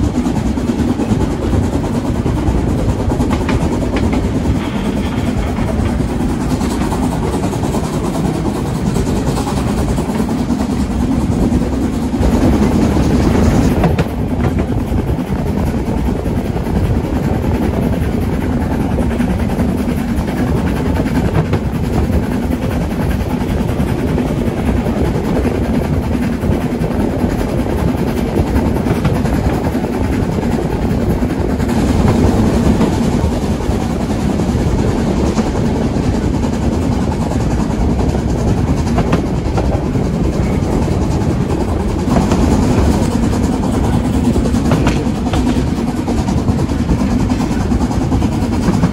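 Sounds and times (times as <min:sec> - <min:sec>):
steam train rumbling: 0:00.0 - 0:48.9.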